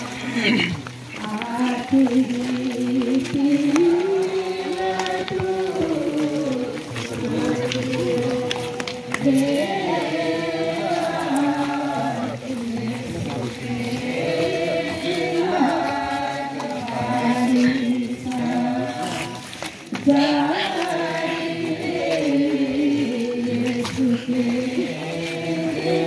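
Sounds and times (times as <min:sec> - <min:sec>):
group of voices singing a hymn: 0:00.0 - 0:26.0.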